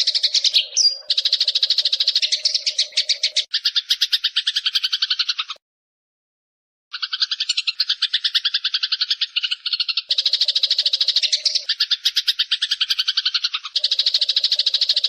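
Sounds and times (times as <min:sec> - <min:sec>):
sparrow chattering trill: 0:00.0 - 0:05.6, 0:06.9 - 0:15.0.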